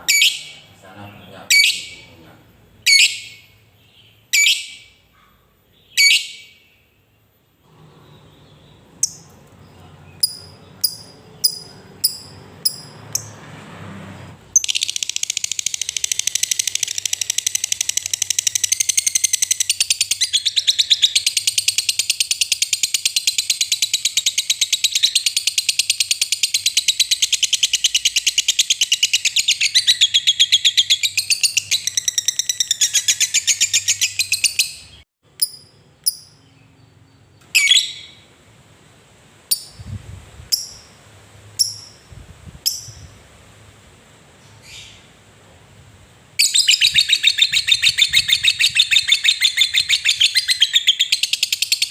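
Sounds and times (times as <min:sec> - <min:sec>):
sharp bird chirps: 0:00.0 - 0:07.3, 0:08.0 - 0:13.4, 0:14.5 - 0:38.3, 0:46.4 - 0:51.9.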